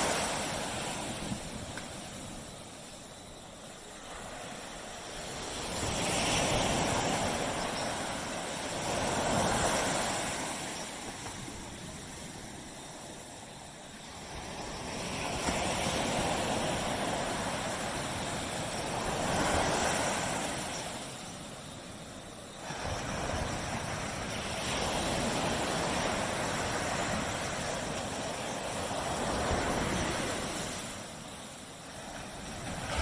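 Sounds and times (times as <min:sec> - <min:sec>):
waves breaking on a beach: 0:00.0 - 0:33.0.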